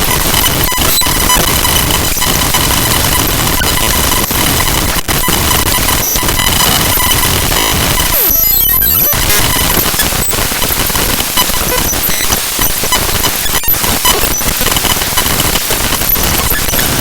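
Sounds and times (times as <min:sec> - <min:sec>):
harsh static: 0:00.0 - 0:17.0.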